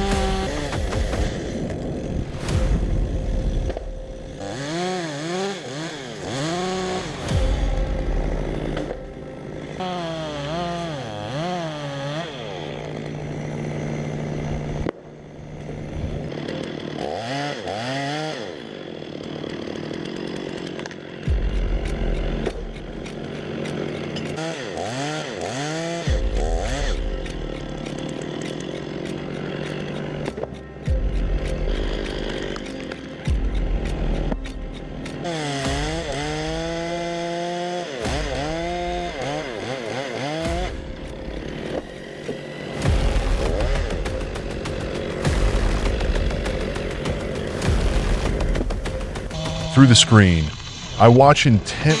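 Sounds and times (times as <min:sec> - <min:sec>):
chainsaw engine revving: 0:00.0 - 0:52.0.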